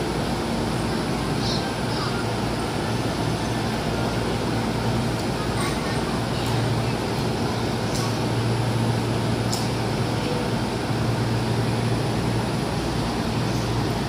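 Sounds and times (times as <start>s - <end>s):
electric train hum and hiss: 0.0s - 14.0s.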